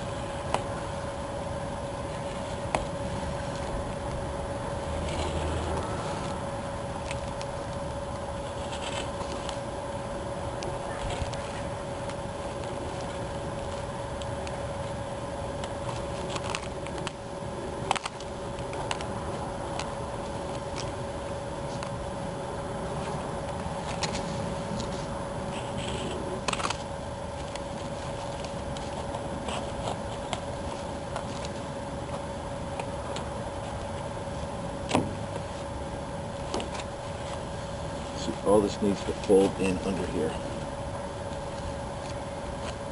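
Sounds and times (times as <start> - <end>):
vinyl scraping and rustling: 0.0 - 10.0, 10.6 - 22.2, 22.8 - 42.9
steady background hum: 0.0 - 42.9.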